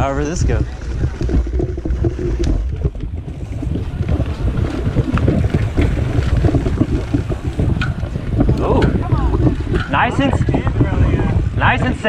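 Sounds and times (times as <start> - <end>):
bike rattling and clicking: 0.0 - 12.0
tyres rolling on dirt: 0.0 - 12.0
wind buffeting microphone: 0.0 - 12.0.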